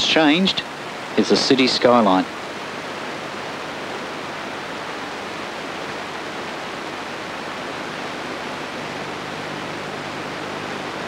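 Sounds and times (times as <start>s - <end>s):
reception noise hiss: 0.0s - 11.0s.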